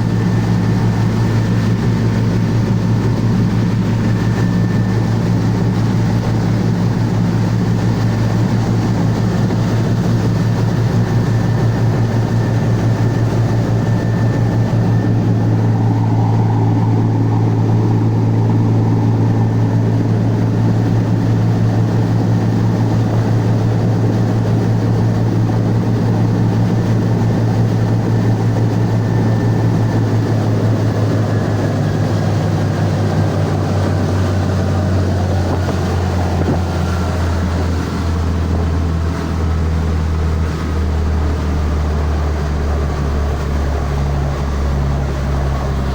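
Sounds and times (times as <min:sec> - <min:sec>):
boat diesel engine humming: 0:00.0 - 0:45.9.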